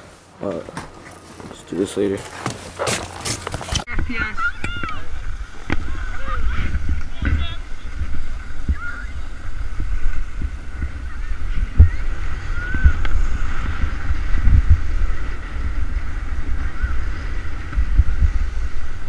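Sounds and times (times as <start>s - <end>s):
wind buffeting microphone: 2.7s - 19.0s.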